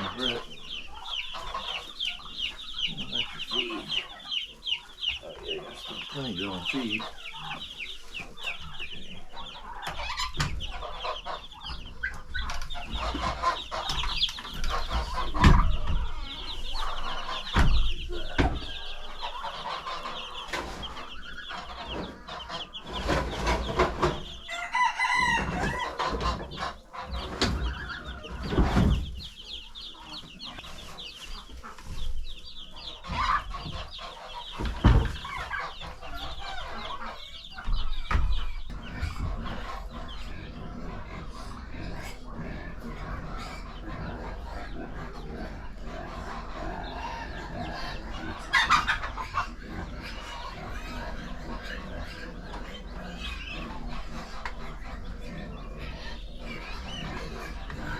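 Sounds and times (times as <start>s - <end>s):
chicks peeping: 0.0s - 57.9s.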